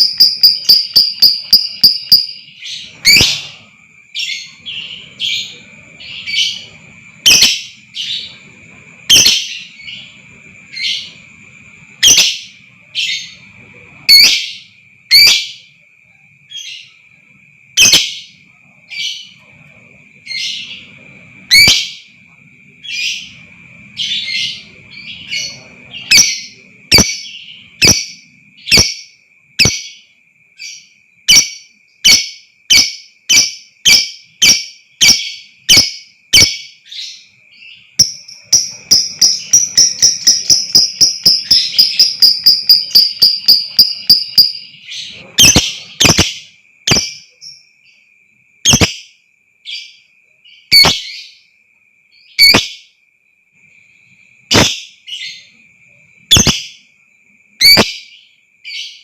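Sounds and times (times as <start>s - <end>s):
lovebird chirping and trilling: 0.0s - 11.3s, 11.9s - 15.6s, 17.8s - 19.4s, 20.2s - 22.2s, 22.8s - 30.0s, 30.6s - 47.6s, 48.6s - 49.1s, 50.5s - 51.4s, 52.3s - 52.8s, 54.5s - 55.5s, 56.3s - 56.8s, 57.6s - 59.0s.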